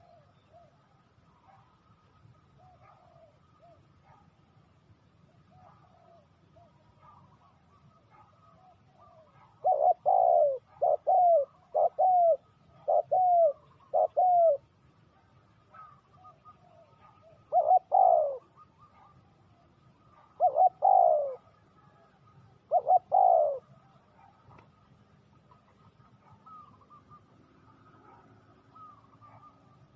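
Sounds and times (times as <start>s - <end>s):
dove cooing: 0.0s - 1.8s, 2.4s - 4.2s, 5.2s - 29.9s.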